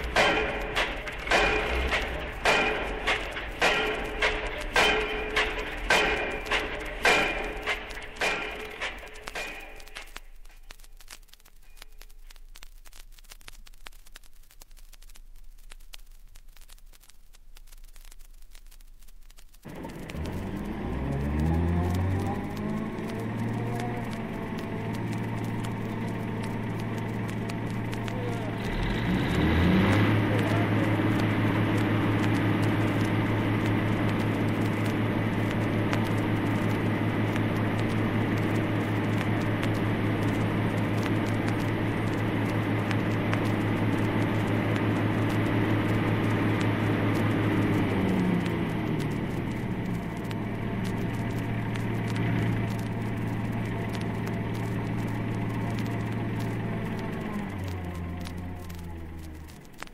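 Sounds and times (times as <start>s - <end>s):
machine motor running with rattling: 0.0s - 10.2s, 19.6s - 59.9s.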